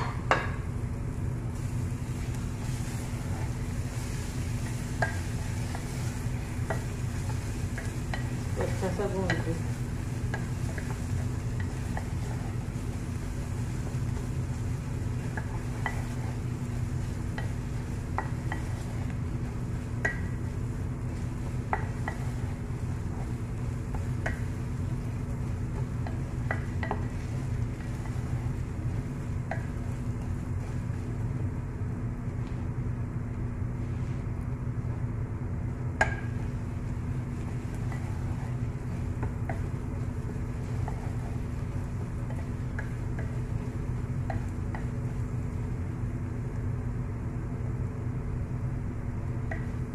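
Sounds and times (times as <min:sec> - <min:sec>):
food frying: 0:00.0 - 0:32.6, 0:35.6 - 0:47.5
steady low hum: 0:00.0 - 0:49.9.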